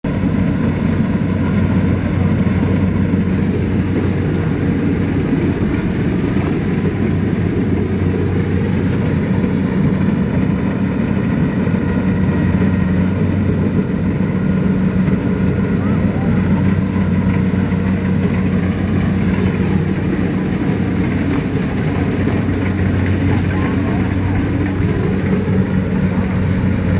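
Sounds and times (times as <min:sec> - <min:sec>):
diesel engine droning: 0:00.0 - 0:26.9.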